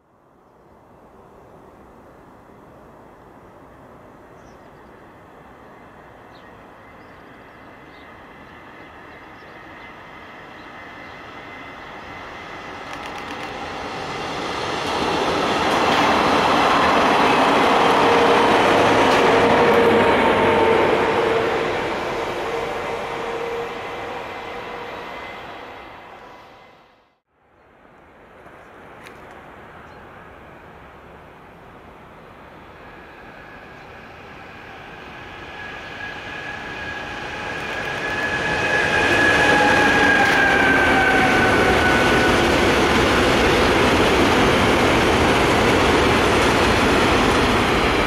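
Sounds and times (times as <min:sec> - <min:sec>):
passenger train passing: 0:02.9 - 0:27.3, 0:29.3 - 0:48.0.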